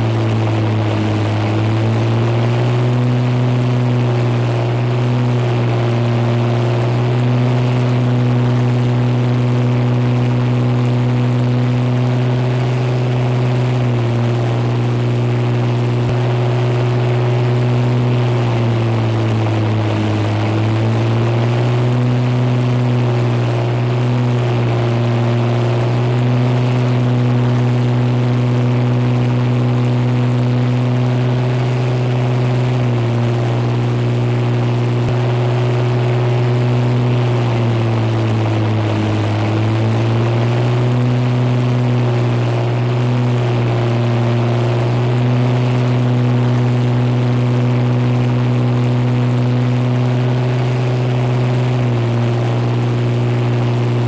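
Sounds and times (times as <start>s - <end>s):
piston aircraft engine droning: 0.0s - 54.0s.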